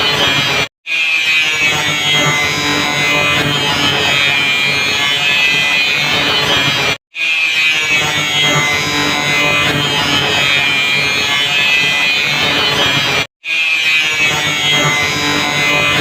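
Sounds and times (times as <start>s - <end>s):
angle grinder grinding: 0.9s - 16.0s.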